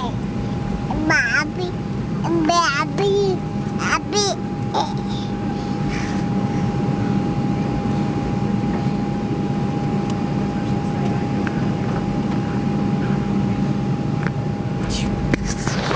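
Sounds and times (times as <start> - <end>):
airliner cabin engine rush: 0.0 - 15.9.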